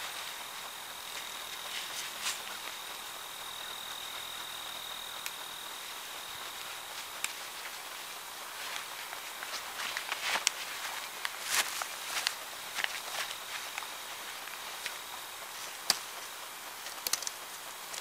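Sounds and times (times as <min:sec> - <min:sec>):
high-pitched insect trill: 0:00.0 - 0:16.6
faint even hiss: 0:00.0 - 0:18.0.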